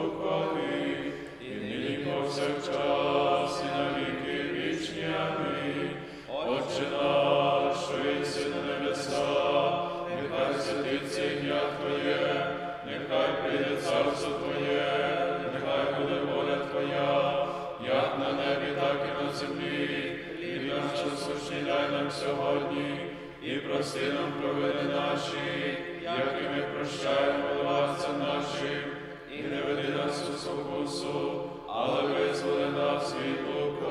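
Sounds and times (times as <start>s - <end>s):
men singing unaccompanied chant: 0.0s - 33.9s.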